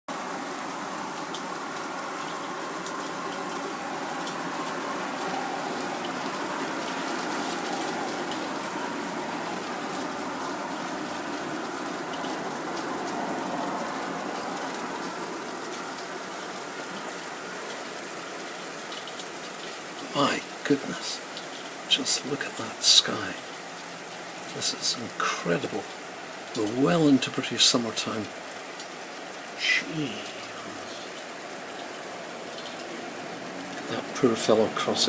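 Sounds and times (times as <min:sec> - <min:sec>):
hail and sleet rushing: 0:00.1 - 0:35.0
hailstones ticking: 0:00.2 - 0:35.0.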